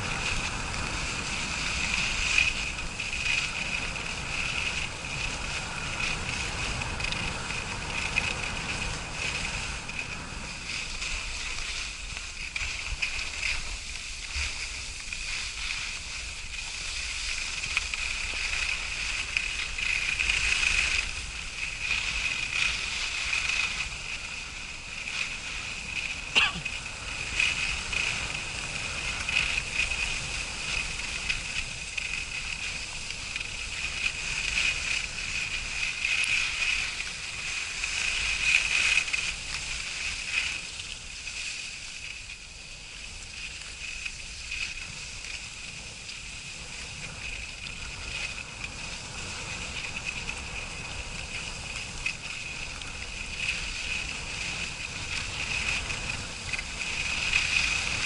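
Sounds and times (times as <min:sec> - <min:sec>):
skis scraping over snow: 0:00.0 - 0:58.0.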